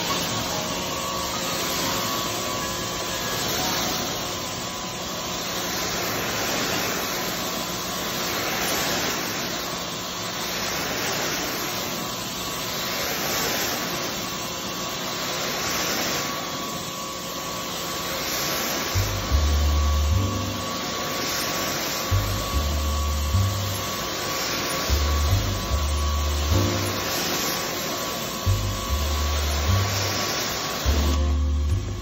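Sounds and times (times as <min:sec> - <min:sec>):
pressure washer spraying: 0:00.0 - 0:32.0.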